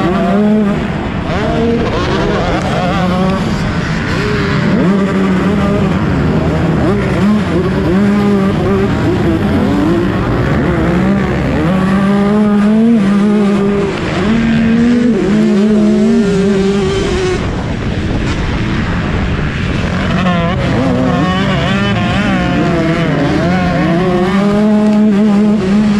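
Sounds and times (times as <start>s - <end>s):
dirt bike engines revving: 0.0s - 25.9s.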